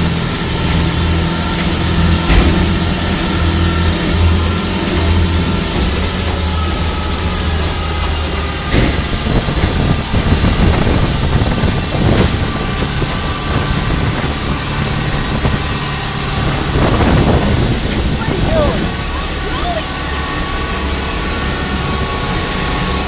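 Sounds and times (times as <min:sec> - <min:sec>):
motorboat engine drone: 0:00.0 - 0:23.0
water rushing along hull: 0:00.0 - 0:23.0.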